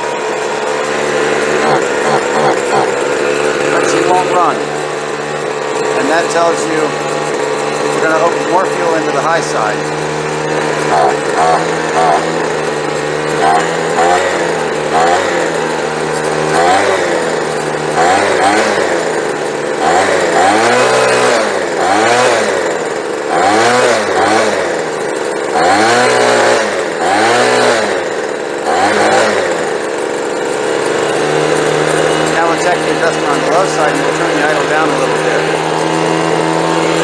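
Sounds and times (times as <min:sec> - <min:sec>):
leaf blower engine revving: 0:00.0 - 0:37.0.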